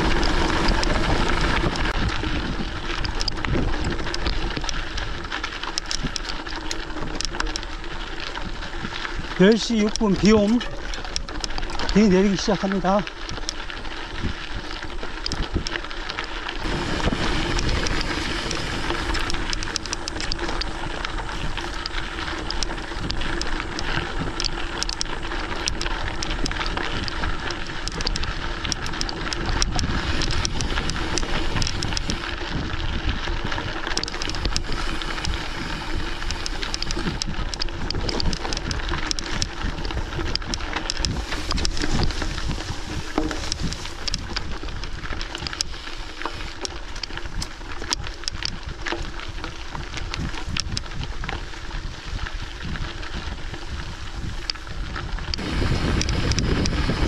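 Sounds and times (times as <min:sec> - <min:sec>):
rain pattering on microphone: 0:00.0 - 0:57.0
wind noise: 0:00.0 - 0:57.0.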